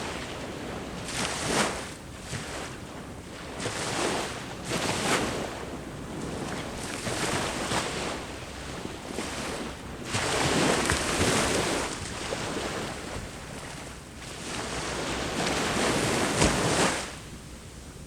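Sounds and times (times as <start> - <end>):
sea waves breaking on shore: 0.0 - 17.4.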